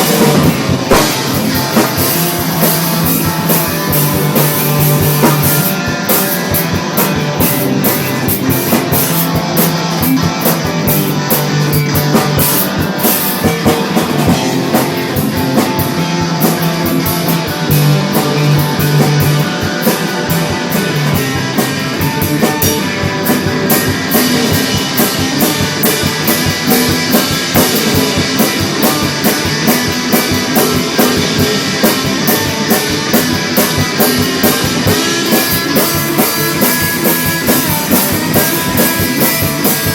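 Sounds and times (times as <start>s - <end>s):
rock music with drums and guitar: 0.0s - 39.9s.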